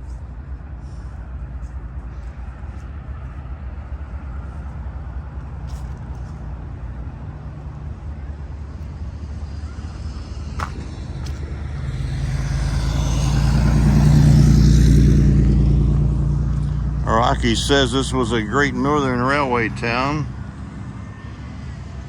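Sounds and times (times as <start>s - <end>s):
diesel locomotive rumbling: 0.0s - 22.0s.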